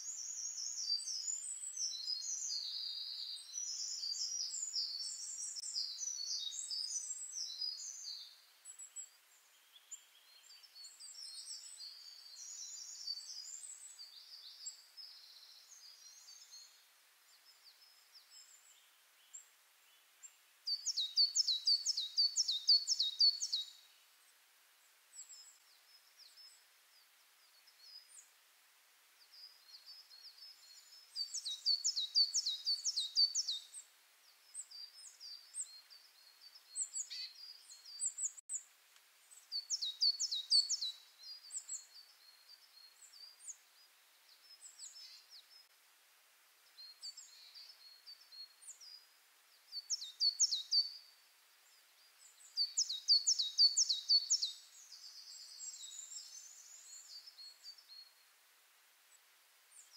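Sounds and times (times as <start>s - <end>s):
bird chirping: 0.0s - 28.4s, 29.2s - 38.7s, 39.3s - 45.8s, 46.6s - 58.3s.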